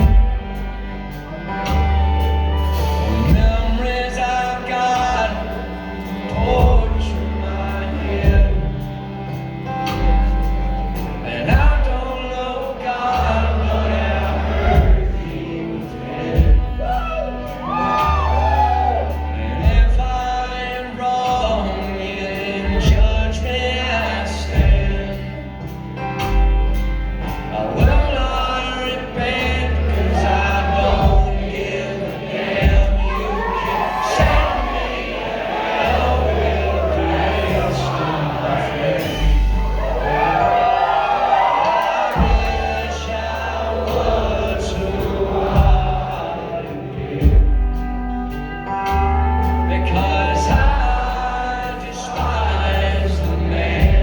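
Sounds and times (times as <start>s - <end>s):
people singing: 0.0s - 1.9s, 2.6s - 10.2s, 11.0s - 48.2s, 49.6s - 54.0s
acoustic country band playing: 0.0s - 54.0s
deep bass notes: 0.0s - 54.0s.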